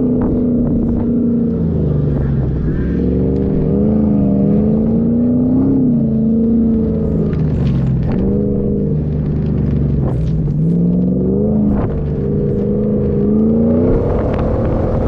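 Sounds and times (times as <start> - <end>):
vehicle engine revving under load: 0.0 - 15.0.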